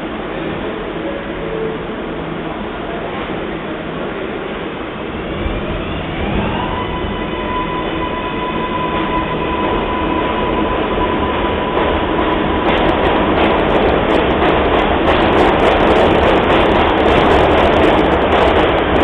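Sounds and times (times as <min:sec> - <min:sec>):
subway train rumbling on tracks: 0:00.0 - 0:19.0.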